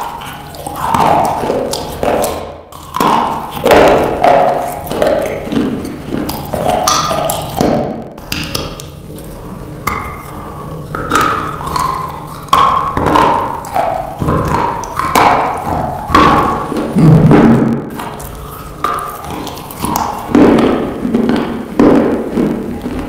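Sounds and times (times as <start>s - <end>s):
chewing slate with crunches: 0.0s - 23.0s.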